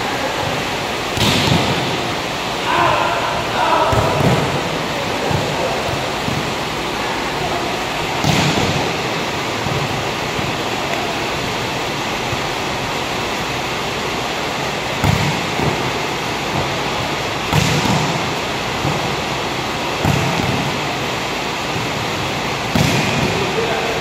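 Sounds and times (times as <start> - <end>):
steady rushing hiss: 0.0 - 24.0
volleyball smacks echoing: 1.0 - 12.0, 14.8 - 23.9.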